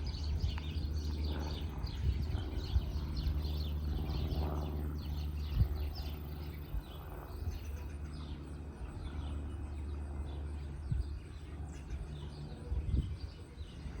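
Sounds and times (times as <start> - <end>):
low engine drone: 0.0 - 14.0
small birds chirping: 0.0 - 14.0.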